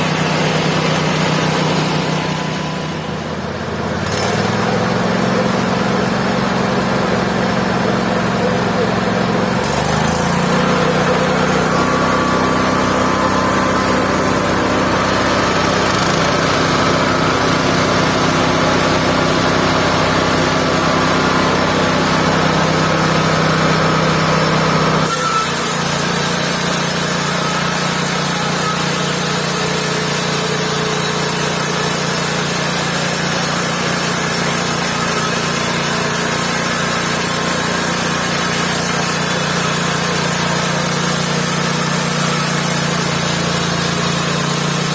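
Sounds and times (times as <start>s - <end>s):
sawing wood: 0.0s - 44.9s
sawmill engine running: 0.0s - 44.9s.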